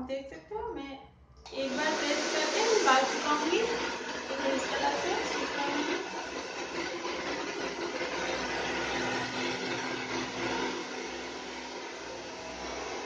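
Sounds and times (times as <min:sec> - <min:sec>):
hair dryer blowing: 0:01.5 - 0:13.0.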